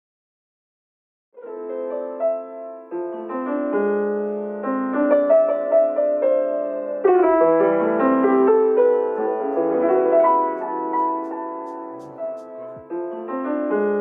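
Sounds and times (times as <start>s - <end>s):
piano music: 1.4s - 14.0s.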